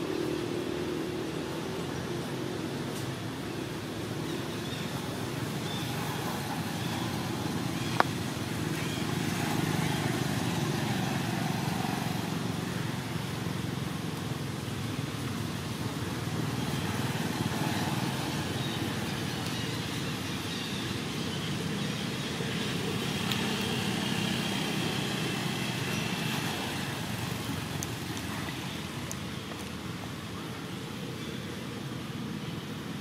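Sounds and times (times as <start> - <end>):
low rumbling outdoor background noise: 0.0 - 33.0.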